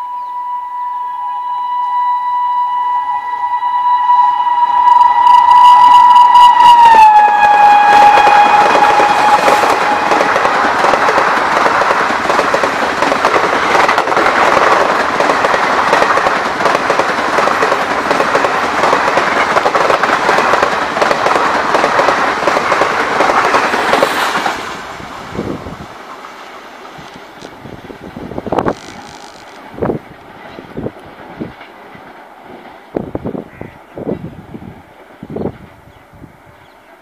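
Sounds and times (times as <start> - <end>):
distant train rumble: 0.0 - 37.0
train passing at full speed: 0.0 - 37.0.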